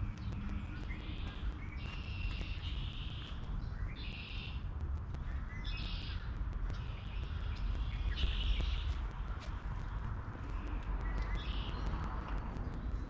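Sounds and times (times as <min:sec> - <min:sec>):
footsteps of person walking: 0:00.0 - 0:03.6, 0:04.6 - 0:13.0
constant low rumble: 0:00.0 - 0:13.0
songbirds chirping: 0:00.0 - 0:13.0.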